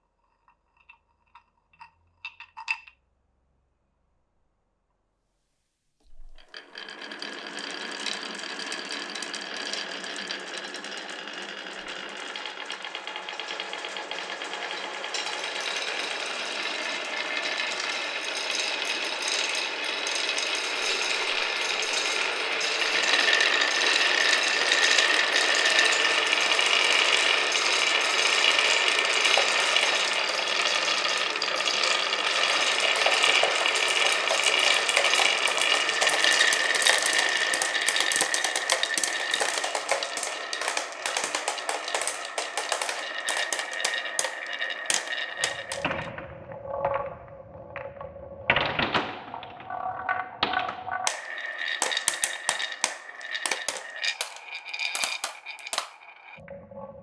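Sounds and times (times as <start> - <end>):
glass marbles rattling down wooden run: 6.1 - 46.1, 48.5 - 56.4.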